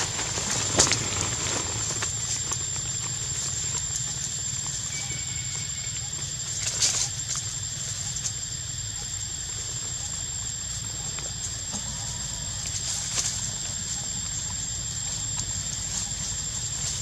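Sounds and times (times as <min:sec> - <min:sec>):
rustling in dry leaves: 0:00.0 - 0:10.0, 0:10.6 - 0:17.0
high-pitched whine: 0:00.0 - 0:17.0.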